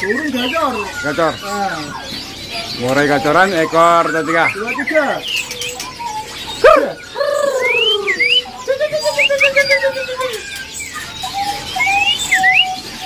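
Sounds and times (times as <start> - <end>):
songbirds singing and chirping: 0.0 - 13.0.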